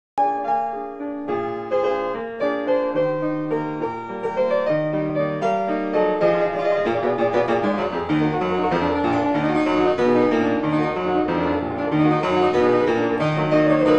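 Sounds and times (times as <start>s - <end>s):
piano music: 0.2s - 13.9s.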